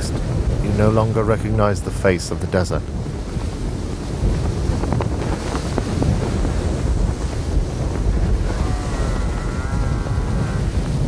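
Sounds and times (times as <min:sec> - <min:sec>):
strong wind gusting on microphone: 0:00.0 - 0:11.0.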